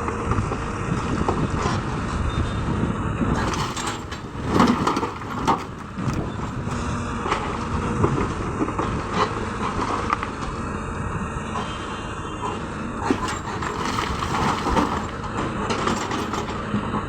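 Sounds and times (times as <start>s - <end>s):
diesel excavator running: 0.0s - 17.0s
clanking and scraping metal and rock: 0.3s - 2.2s, 3.3s - 10.5s, 12.4s - 17.0s.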